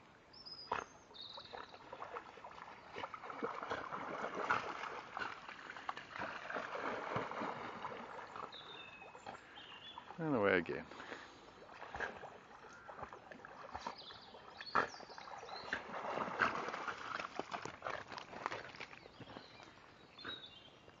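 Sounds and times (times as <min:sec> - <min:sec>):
dog paddling through water: 0:00.5 - 0:20.9.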